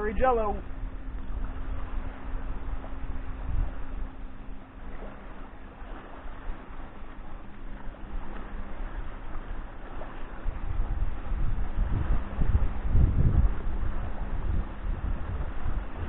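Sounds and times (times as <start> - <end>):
water lapping at shore: 0.0 - 16.0
wind buffeting microphone: 0.0 - 16.0.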